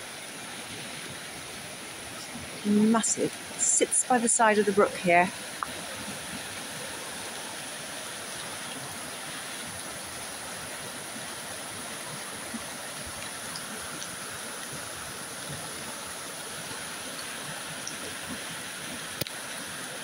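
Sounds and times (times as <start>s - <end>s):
brook rushing and splashing: 0.0s - 20.0s.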